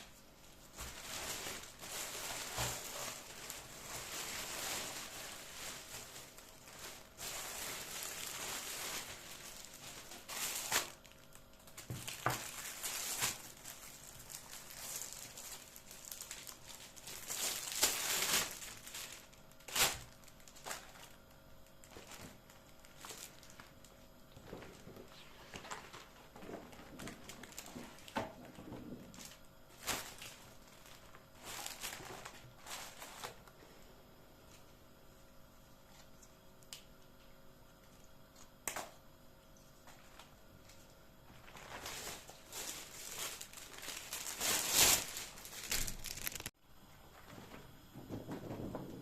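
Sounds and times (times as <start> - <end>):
plastic or paper rustling: 0.0 - 33.6, 39.8 - 49.0.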